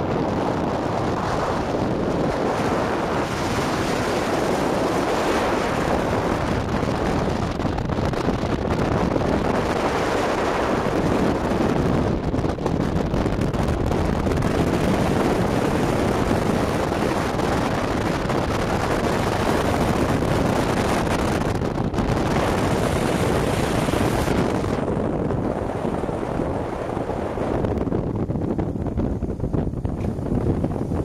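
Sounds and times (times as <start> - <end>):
motorcycle engine and road noise: 0.0 - 31.0
wind rushing over microphone: 0.0 - 31.0.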